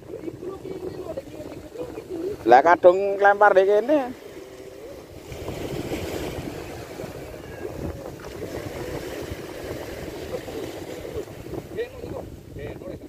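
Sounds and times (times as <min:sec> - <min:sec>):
waves washing against rocks: 0:00.0 - 0:13.0
wind buffeting microphone: 0:00.0 - 0:13.0.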